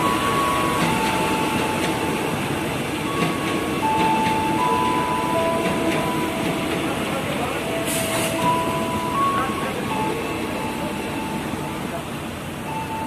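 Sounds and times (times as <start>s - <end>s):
electric train passing: 0.0s - 13.0s.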